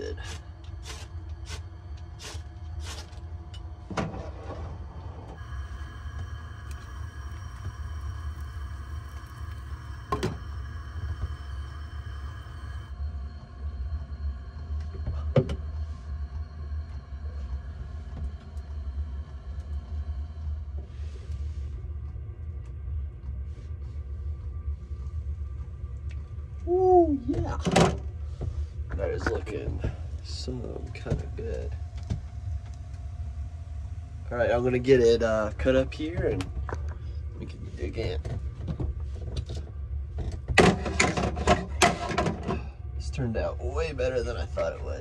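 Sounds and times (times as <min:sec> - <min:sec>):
faint steady hum: 0:00.0 - 0:45.0
steady low rumble: 0:00.0 - 0:45.0.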